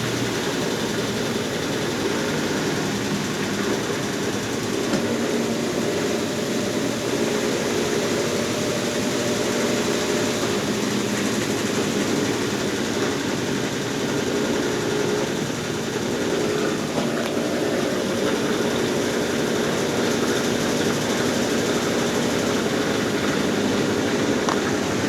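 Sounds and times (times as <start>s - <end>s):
washing machine humming: 0.0s - 25.0s.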